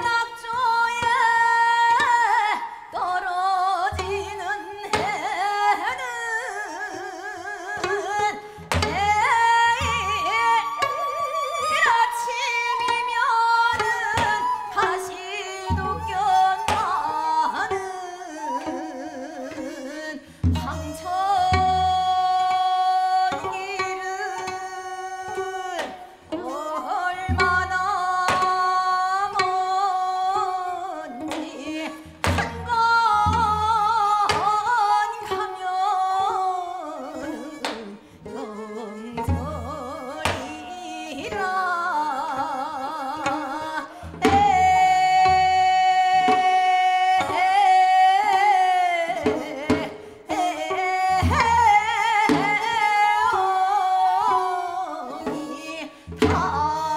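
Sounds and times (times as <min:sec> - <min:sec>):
woman singing folk song: 0:00.0 - 0:56.9.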